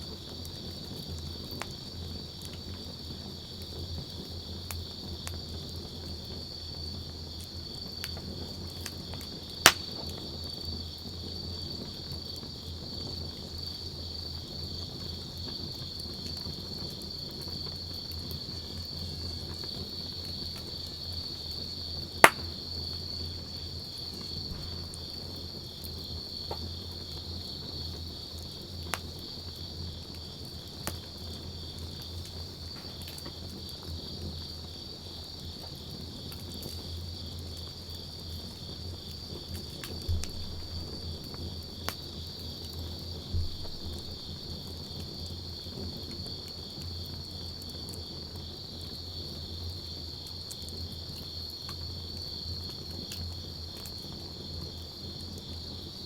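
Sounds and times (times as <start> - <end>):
campfire crackling with pops: 0.0 - 56.0
insects chirring: 0.0 - 56.0.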